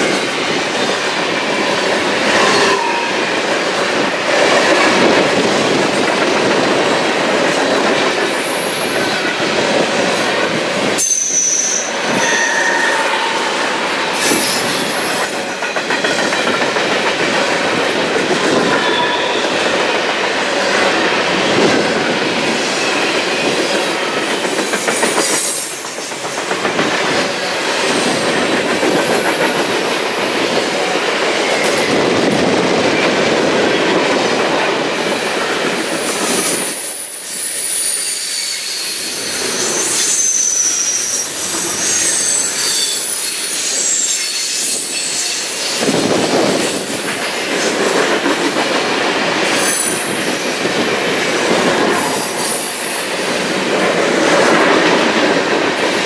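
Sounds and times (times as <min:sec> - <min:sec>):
wheels squealing on rails: 0:00.0 - 0:03.4, 0:07.6 - 0:21.1, 0:21.8 - 0:32.1, 0:32.9 - 0:48.2, 0:48.8 - 0:56.0
freight train rolling past: 0:00.0 - 0:56.0.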